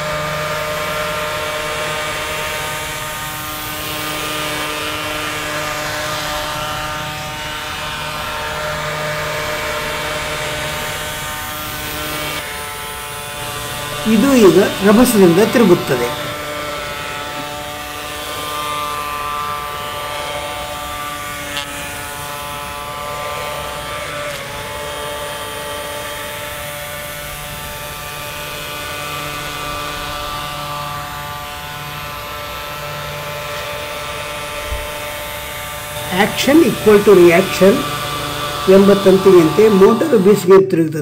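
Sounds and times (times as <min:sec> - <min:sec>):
toy motor buzzing: 0:00.0 - 0:40.6.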